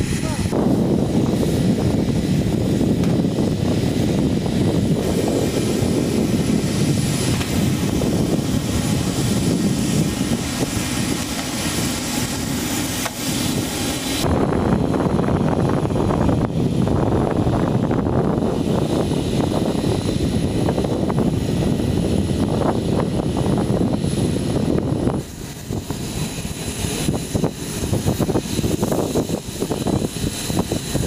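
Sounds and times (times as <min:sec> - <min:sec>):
high engine whine: 0:00.0 - 0:31.0
jet engine rumble and hiss: 0:00.0 - 0:31.0.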